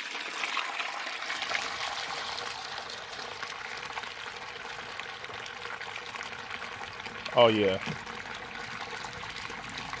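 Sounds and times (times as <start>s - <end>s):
water gushing from drain hose: 0.0s - 10.0s.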